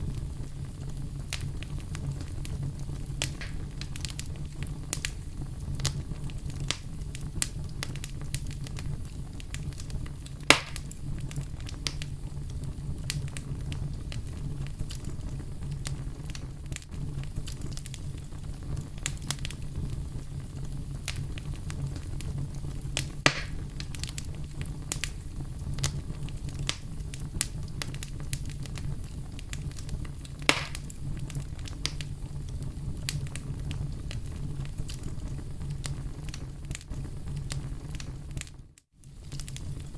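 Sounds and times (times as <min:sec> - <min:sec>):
loud fire pops: 0:00.0 - 0:39.9
low fire rumble: 0:00.0 - 0:39.9
wood fire pops and snaps: 0:00.0 - 0:39.9.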